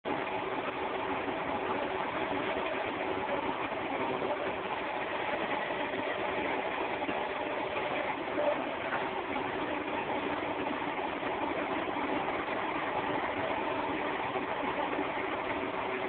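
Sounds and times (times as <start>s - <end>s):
milling machine hum: 0.1s - 16.0s.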